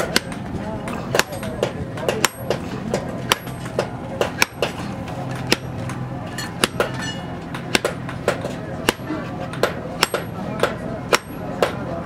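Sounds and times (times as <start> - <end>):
hammer striking steel on anvil: 0.0 - 11.9
steady low hum: 0.0 - 12.0.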